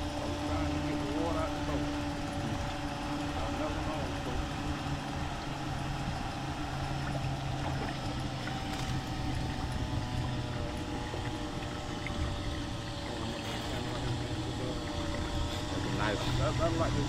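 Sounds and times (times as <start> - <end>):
small motor humming: 0.0 - 17.0.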